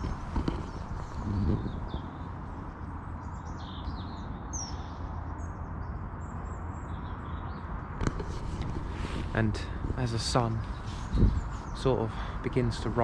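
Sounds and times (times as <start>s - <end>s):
low outdoor rumble: 0.0s - 5.6s, 6.2s - 13.0s
small birds chirping: 0.0s - 13.0s.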